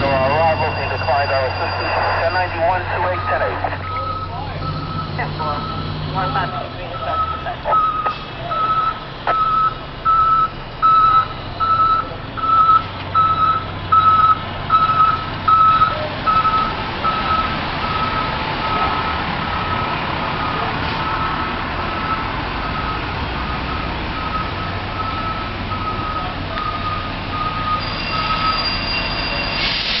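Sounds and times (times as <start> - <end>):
diesel engine running: 0.0 - 28.7
reversing alarm beeping: 0.0 - 30.0.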